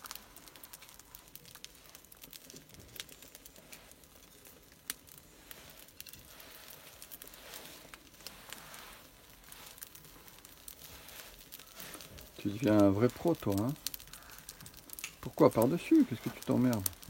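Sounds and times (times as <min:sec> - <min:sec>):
kindling fire crackling: 0:00.0 - 0:17.0.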